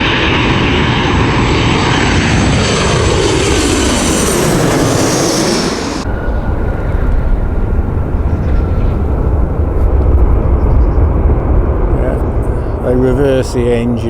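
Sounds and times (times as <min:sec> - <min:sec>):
airliner engines roaring: 0:00.0 - 0:14.0.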